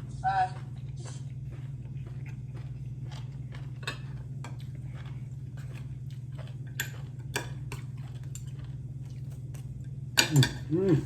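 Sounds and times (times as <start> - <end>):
person chewing with crunches: 0.0 - 11.0
steady low hum: 0.0 - 11.0.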